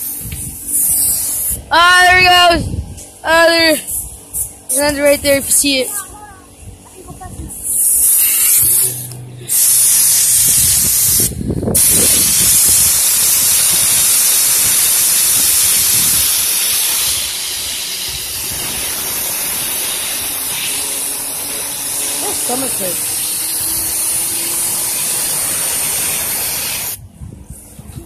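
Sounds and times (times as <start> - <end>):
air blow gun hissing: 0.0 - 1.7, 3.8 - 6.0, 7.5 - 27.7.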